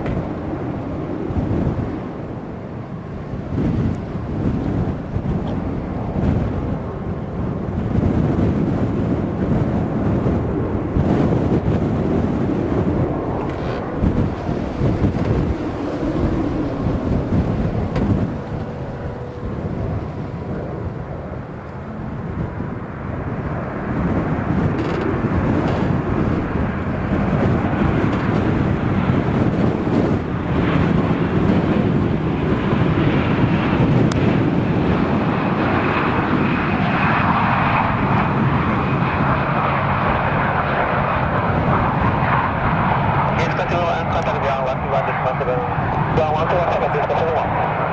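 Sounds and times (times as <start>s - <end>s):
airliner engines rumbling: 0.0s - 47.9s
wind buffeting microphone: 0.0s - 47.9s.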